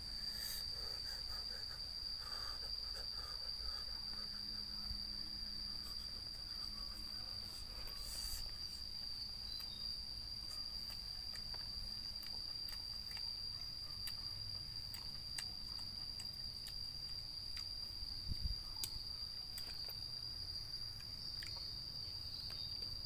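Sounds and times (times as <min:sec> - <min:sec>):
high-pitched insect trill: 0:00.0 - 0:23.0.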